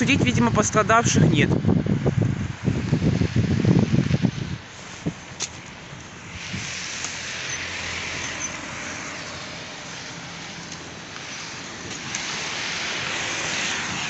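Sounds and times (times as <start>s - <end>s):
tyres hissing on wet road: 0.1s - 14.0s.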